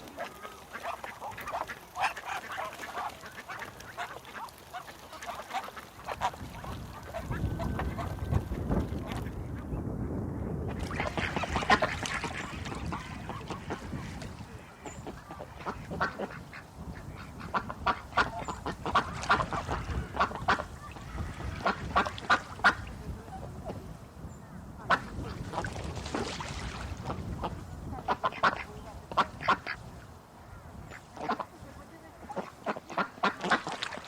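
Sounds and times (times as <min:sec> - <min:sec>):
ducks quacking: 0:00.0 - 0:09.7, 0:10.7 - 0:23.9, 0:24.8 - 0:34.0.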